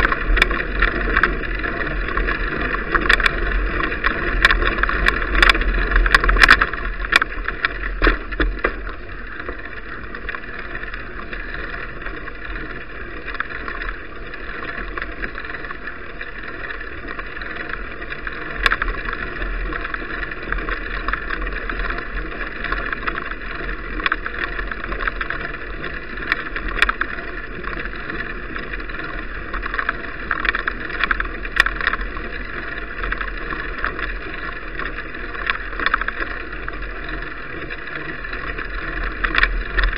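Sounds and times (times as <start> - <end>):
bicycle rattling clicks: 0.0 - 39.9.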